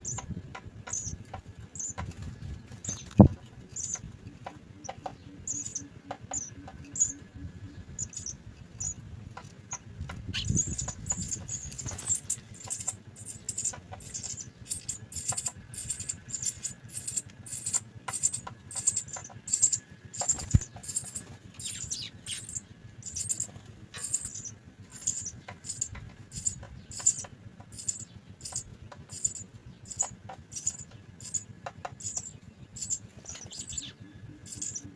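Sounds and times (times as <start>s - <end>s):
chicks chirping high-pitched: 0.0s - 9.0s, 9.6s - 34.9s.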